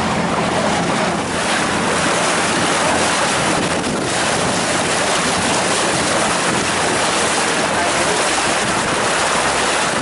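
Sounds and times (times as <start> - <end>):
sea water rushing: 0.0 - 10.0
wind: 0.0 - 10.0
wind buffeting microphone: 0.0 - 10.0.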